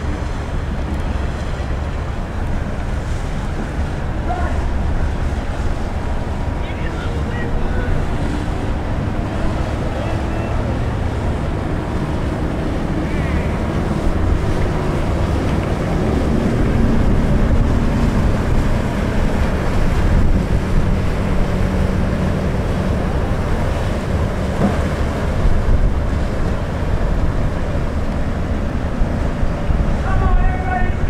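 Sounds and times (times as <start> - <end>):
water rushing past ship: 0.0 - 31.0
wind buffeting microphone: 0.0 - 31.0.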